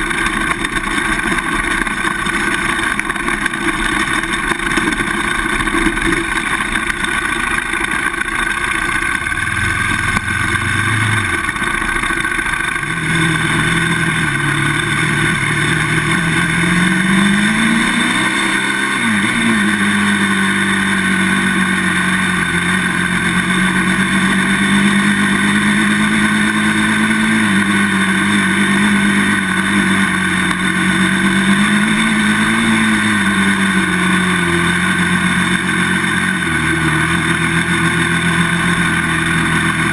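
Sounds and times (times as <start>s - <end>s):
quad engine running at speed: 0.0s - 39.9s
trail noise: 0.0s - 39.9s.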